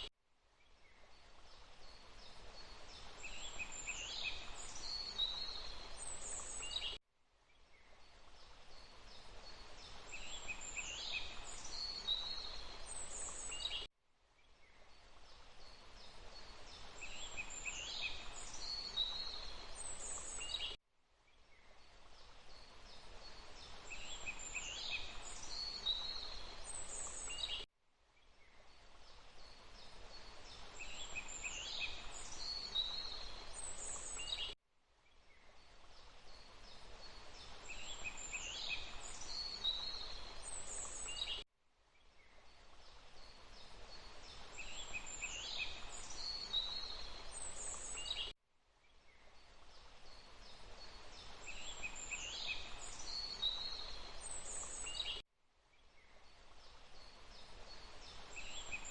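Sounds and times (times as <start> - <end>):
rushing water: 1.1 - 6.9, 8.0 - 13.8, 14.6 - 20.7, 21.6 - 27.6, 28.7 - 34.6, 35.6 - 41.4, 42.3 - 48.2, 49.3 - 55.1, 56.3 - 58.9.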